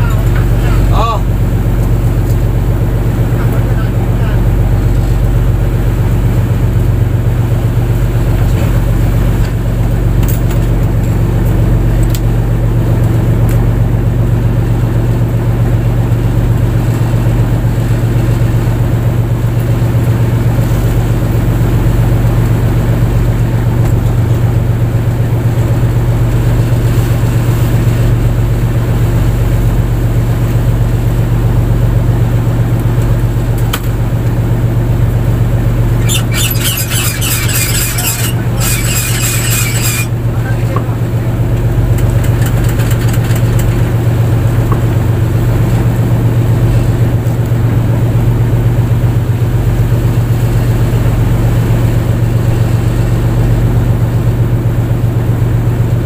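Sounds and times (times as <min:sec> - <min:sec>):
boat engine low hum: 0:00.0 - 0:56.0.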